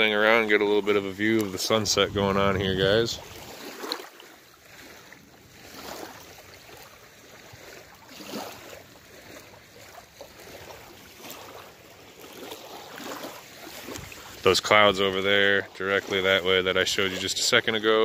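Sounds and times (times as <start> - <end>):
water lapping at shore: 0.0 - 18.0.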